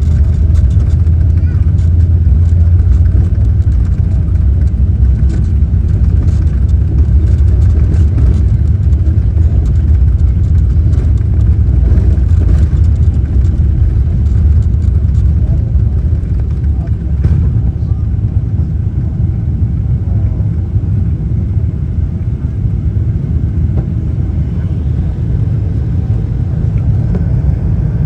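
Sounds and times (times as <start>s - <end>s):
airplane taking off rumble: 0.0s - 28.0s.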